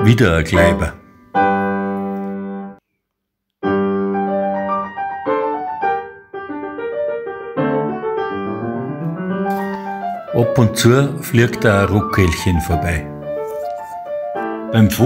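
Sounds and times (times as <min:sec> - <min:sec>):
slow piano music: 0:00.0 - 0:02.8, 0:03.6 - 0:15.0.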